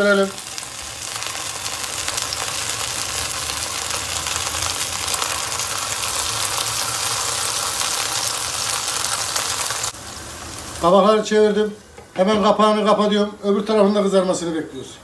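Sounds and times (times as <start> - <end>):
vegetables sizzling in frying pan: 0.0 - 12.6.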